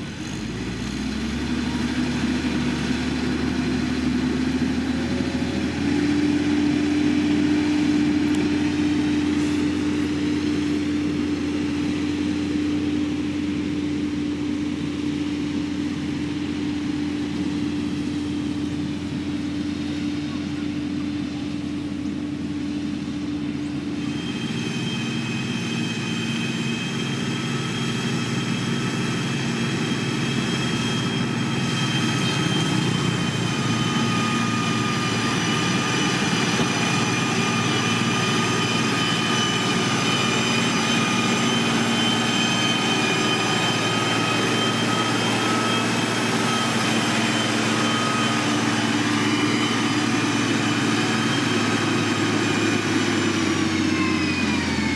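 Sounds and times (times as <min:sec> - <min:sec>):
heavy diesel engine running: 0:00.0 - 0:54.9
high-pitched whine: 0:00.1 - 0:54.9.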